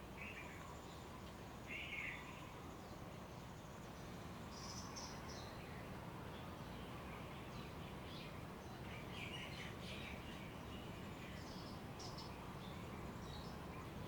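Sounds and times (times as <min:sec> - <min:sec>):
songbirds chirping: 0:00.0 - 0:14.0
steady background hiss: 0:00.0 - 0:14.0.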